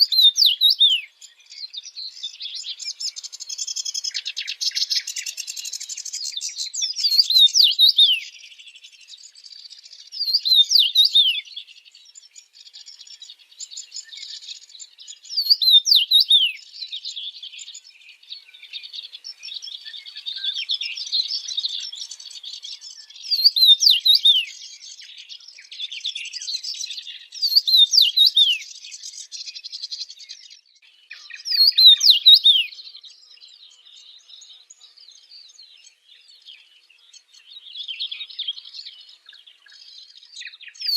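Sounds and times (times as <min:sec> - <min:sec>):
bird song of falling chirps: 0:00.0 - 0:40.9.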